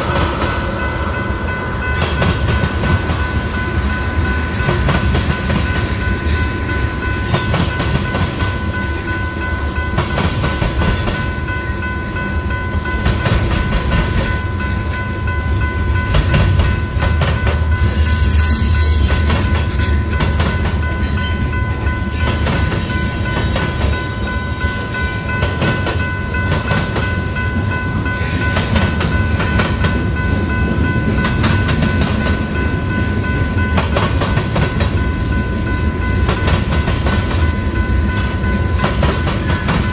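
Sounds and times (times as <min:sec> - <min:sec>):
train wheels clattering: 0:00.0 - 0:11.8, 0:12.8 - 0:15.1, 0:15.9 - 0:39.9
deep train rumble: 0:00.0 - 0:39.9.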